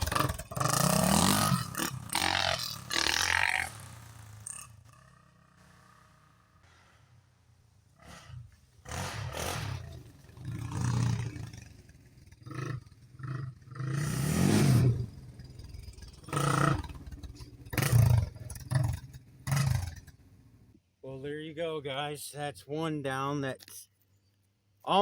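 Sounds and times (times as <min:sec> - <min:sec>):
atv engine revving: 0:00.0 - 0:20.8.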